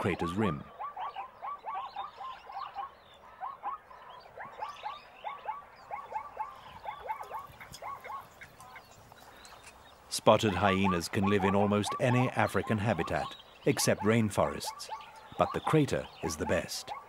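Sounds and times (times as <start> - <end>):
chorus of animal calls: 0.0 - 17.0.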